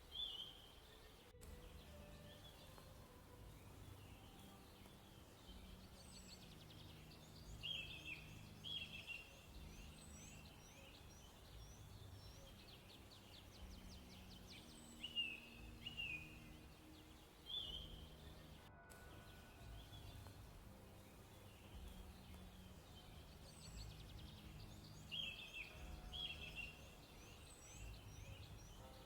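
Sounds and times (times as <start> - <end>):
birds chirping and singing: 0.0 - 29.0
faint low hum: 0.0 - 29.0.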